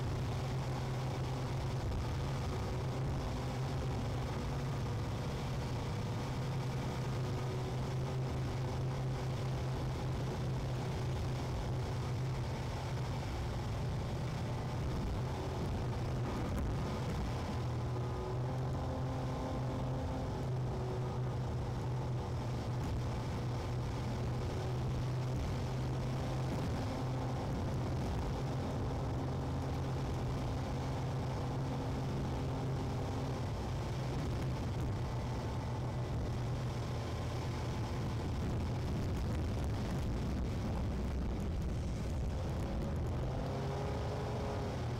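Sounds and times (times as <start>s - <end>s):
car engine and tyres drone: 0.0s - 44.9s.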